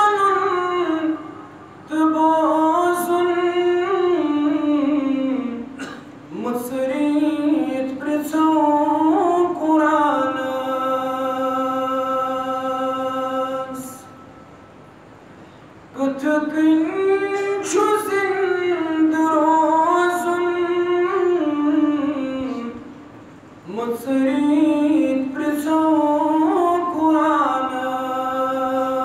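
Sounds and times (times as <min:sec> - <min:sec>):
man chanting unaccompanied: 0:00.0 - 0:14.2, 0:15.9 - 0:23.0, 0:23.6 - 0:29.0.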